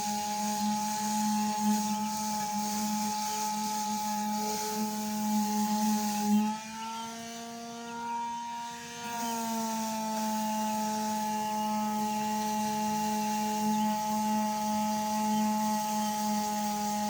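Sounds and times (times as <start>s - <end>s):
electric power sander running: 0.0s - 17.0s.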